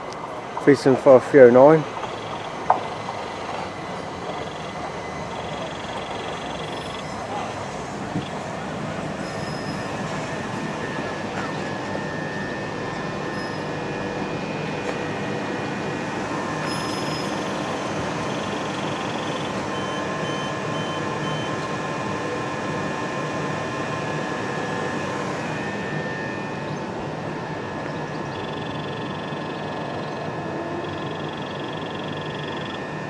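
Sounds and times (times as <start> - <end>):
train equipment hum and whine: 0.0 - 33.0.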